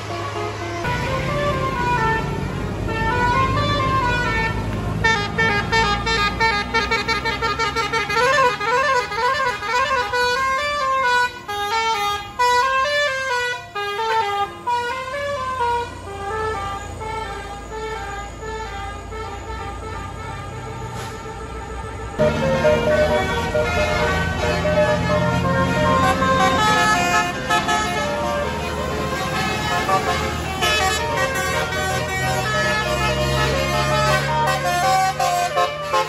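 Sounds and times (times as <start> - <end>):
multi-tone air horn melody: 0.0 - 36.0
low engine rumble: 0.7 - 12.6, 13.3 - 36.0.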